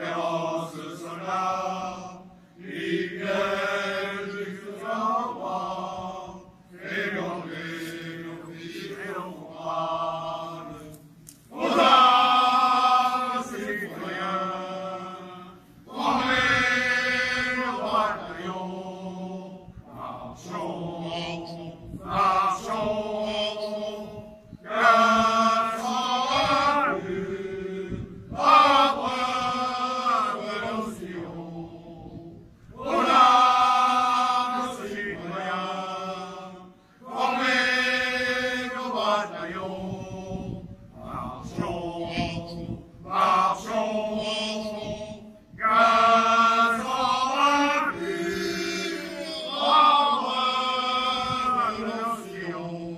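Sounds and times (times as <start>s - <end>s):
choir singing slowly: 0.0s - 52.9s.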